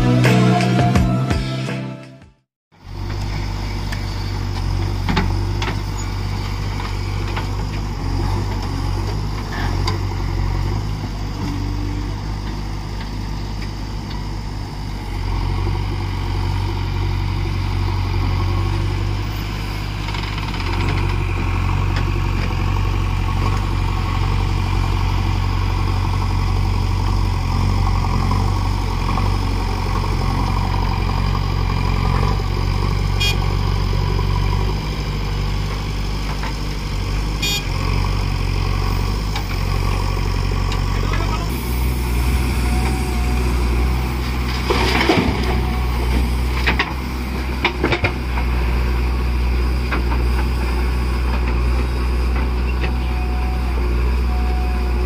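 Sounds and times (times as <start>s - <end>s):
diesel engine under load: 2.7s - 55.0s.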